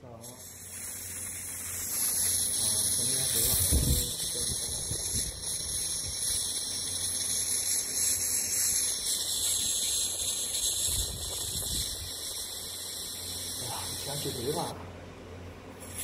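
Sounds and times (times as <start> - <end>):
laser machine high-pitched hiss: 0.0 - 14.8, 15.7 - 16.0.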